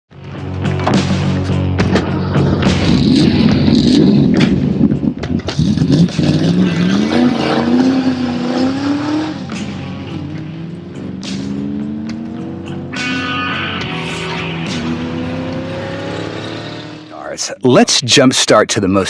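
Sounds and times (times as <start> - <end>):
car engine accelerating: 1.6 - 17.2.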